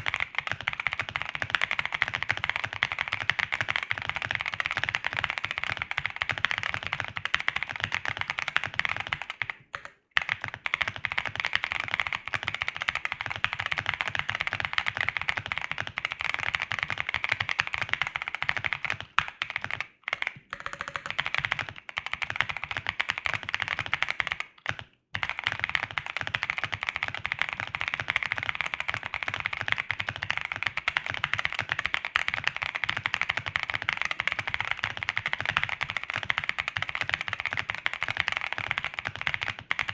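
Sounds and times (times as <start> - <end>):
muted keyboard typing: 0.0 - 39.9.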